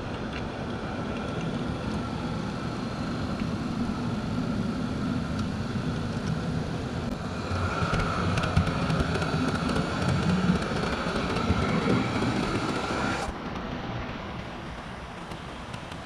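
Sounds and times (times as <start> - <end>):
faint steady whine: 0.0 - 16.0
model train wheels and motor rumble: 0.0 - 16.0.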